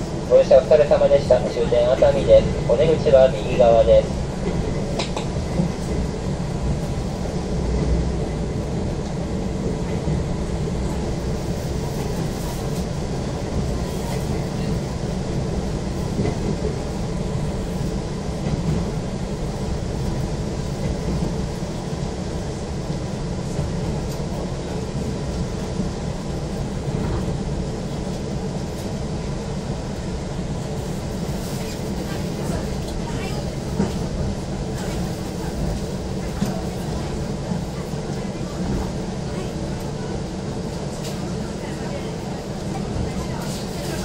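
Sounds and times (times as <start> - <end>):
electric train rumbling: 0.0 - 44.0.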